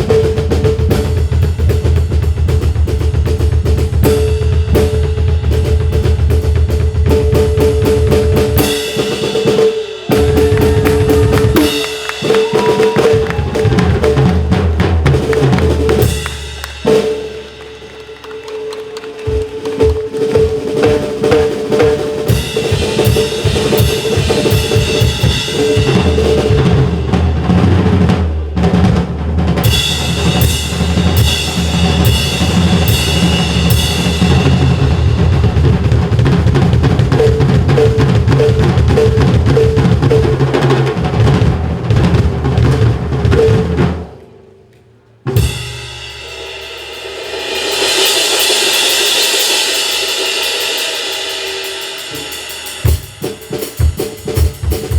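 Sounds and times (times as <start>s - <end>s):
drum kit played fast: 0.0s - 44.2s, 45.3s - 54.9s.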